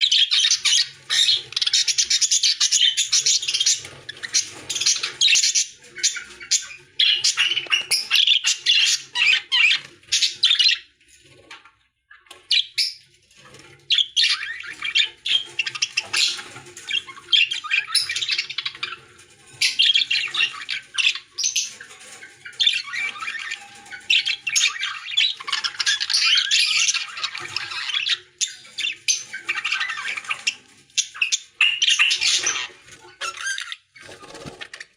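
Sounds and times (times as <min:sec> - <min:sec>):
lovebirds chattering and squawking: 0:00.0 - 0:34.9.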